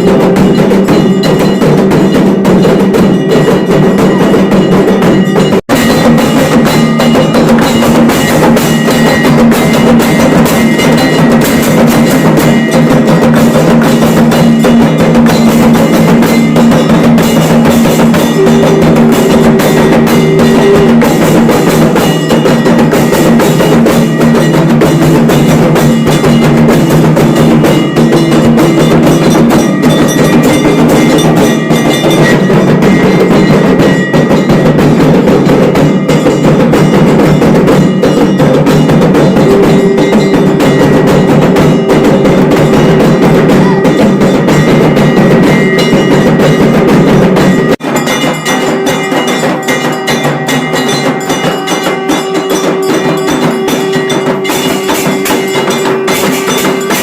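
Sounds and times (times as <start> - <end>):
rapid drumming: 0.0 - 57.0
ringing bells: 0.0 - 57.0.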